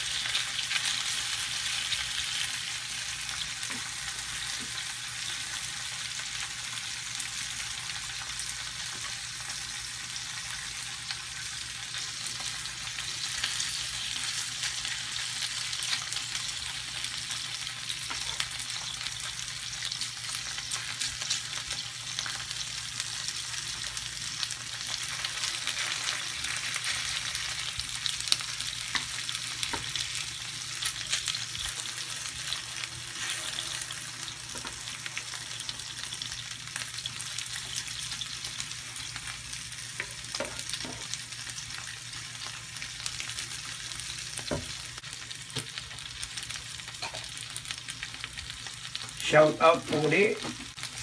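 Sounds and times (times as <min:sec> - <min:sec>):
chicken sizzling in grill pan: 0:00.0 - 0:51.0.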